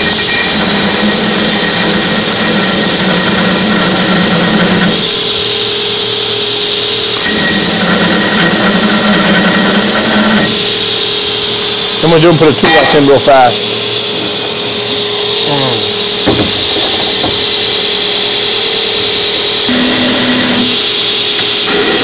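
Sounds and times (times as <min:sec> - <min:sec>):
belt grinder grinding metal: 0:00.0 - 0:05.8, 0:07.1 - 0:22.0.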